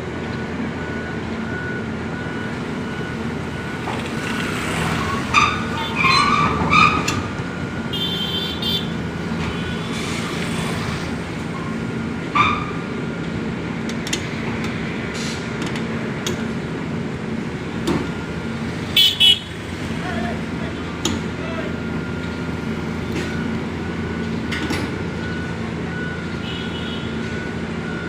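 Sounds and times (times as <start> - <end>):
heavy diesel engine humming: 0.0 - 28.0.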